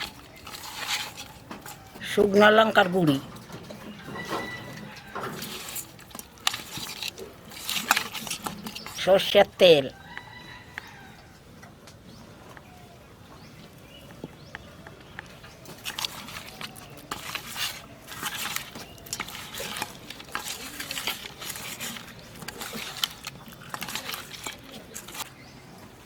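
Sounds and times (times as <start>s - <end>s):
hands mixing wet fish: 0.0s - 26.0s.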